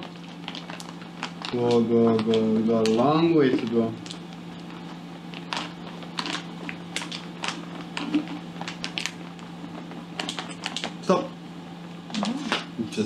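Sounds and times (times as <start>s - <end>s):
plastic bag crinkling: 0.0s - 11.1s
steady low hum: 0.0s - 13.0s.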